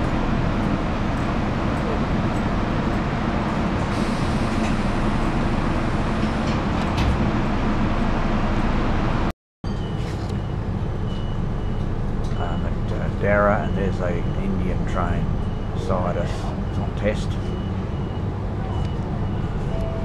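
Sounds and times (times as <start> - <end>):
train carriage rumble and hum: 0.0 - 20.0.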